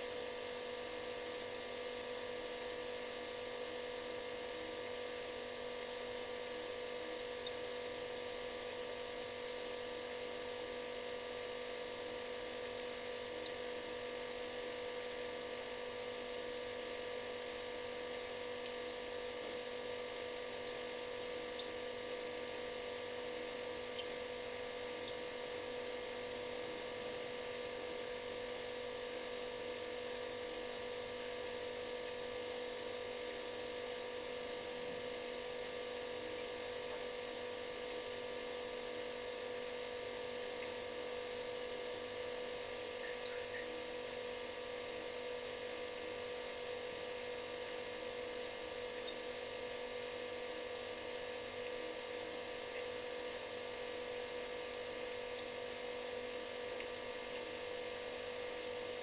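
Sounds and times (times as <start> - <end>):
refrigerator compressor humming: 0.0 - 59.0.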